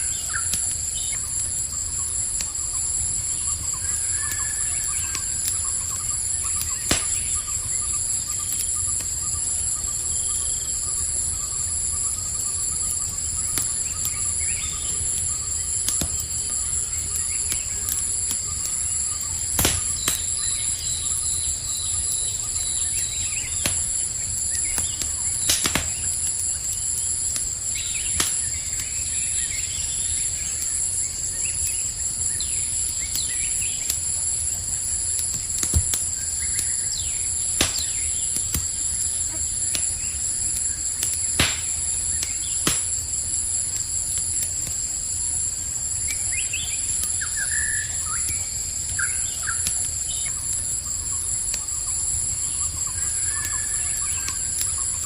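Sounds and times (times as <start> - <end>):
campfire crackling and popping: 0.0 - 55.0
crickets trilling: 0.0 - 55.0.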